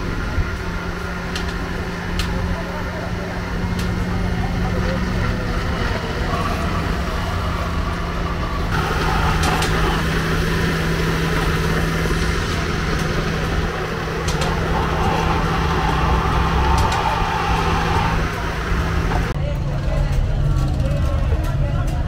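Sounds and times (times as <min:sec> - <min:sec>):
vehicle engines running: 0:00.0 - 0:22.0.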